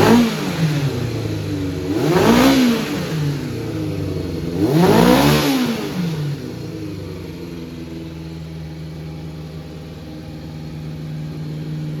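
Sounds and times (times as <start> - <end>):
motorcycle engine idling: 0.0 - 4.9, 5.6 - 12.0.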